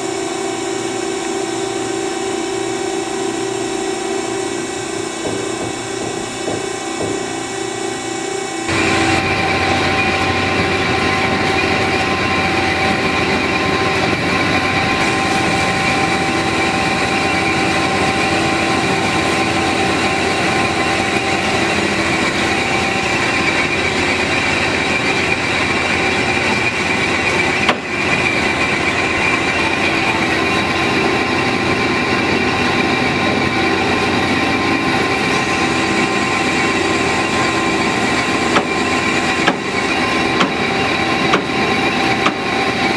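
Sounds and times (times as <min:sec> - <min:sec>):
band saw whining: 0:00.0 - 0:42.9.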